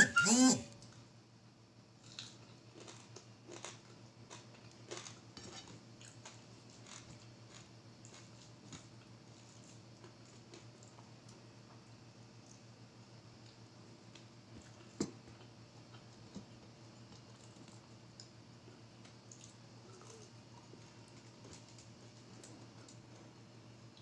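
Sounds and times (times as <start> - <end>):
chewing food: 2.0 - 12.6, 13.4 - 24.0.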